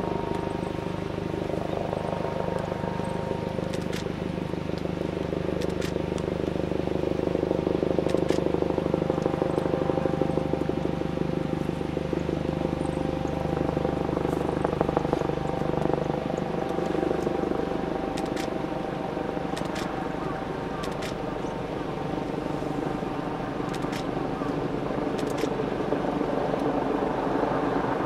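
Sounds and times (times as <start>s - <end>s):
helicopter flying overhead: 0.0s - 28.0s.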